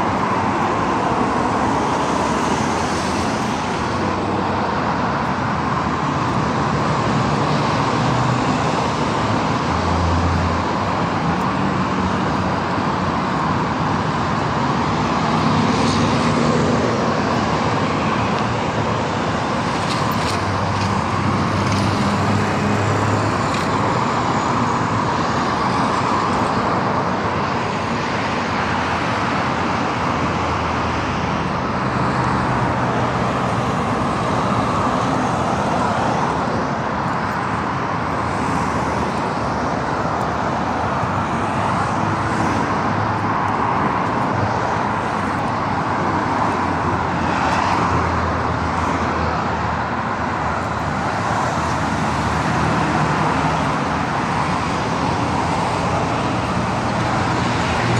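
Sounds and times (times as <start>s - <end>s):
road traffic driving past: 0.0s - 57.9s.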